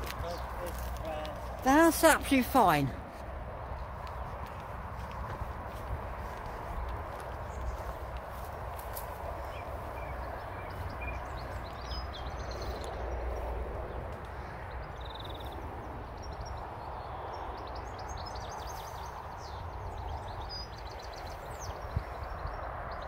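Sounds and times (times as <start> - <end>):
small birds chirping: 0.0 - 2.8, 3.6 - 23.0.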